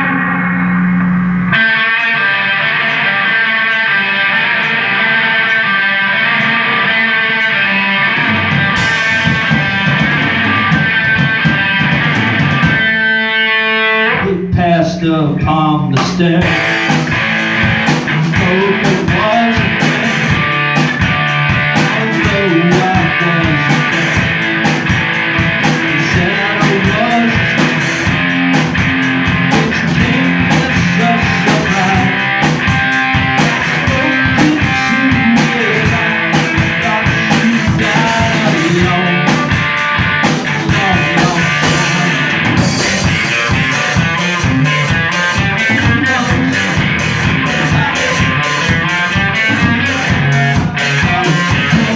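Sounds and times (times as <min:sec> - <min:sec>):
drum kit: 0:00.0 - 0:13.5, 0:14.2 - 0:51.9
electric guitars: 0:00.0 - 0:51.9.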